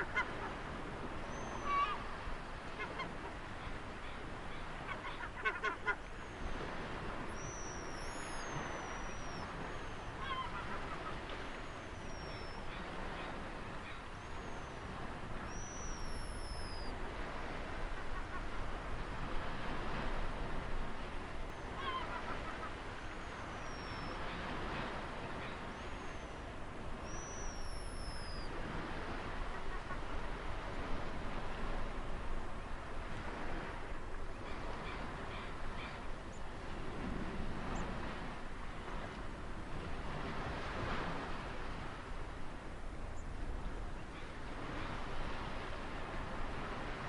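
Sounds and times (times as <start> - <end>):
ocean waves: 0.0 - 47.0.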